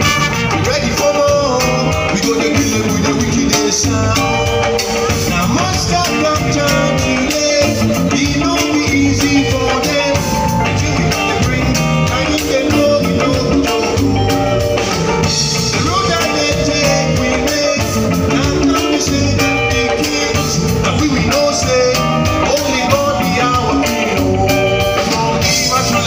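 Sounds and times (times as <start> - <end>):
drum kit: 0.0 - 26.0
electric bass: 0.0 - 26.0
electric guitar: 0.0 - 26.0
keyboards: 0.0 - 26.0
man singing lead vocal: 0.0 - 26.0.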